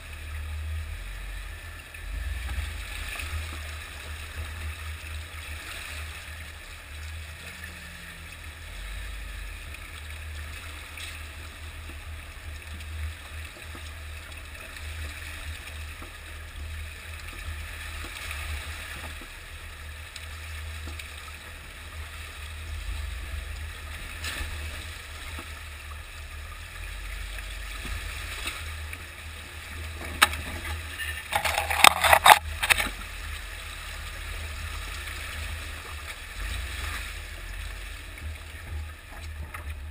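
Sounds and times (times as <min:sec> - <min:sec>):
low engine rumble: 0:00.0 - 0:39.9
water splashing around tyres: 0:00.0 - 0:39.9.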